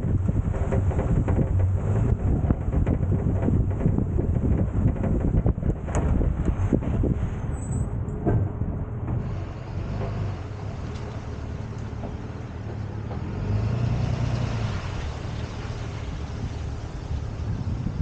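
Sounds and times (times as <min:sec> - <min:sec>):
road noise: 0:00.0 - 0:18.0
tow truck engine running: 0:00.0 - 0:18.0.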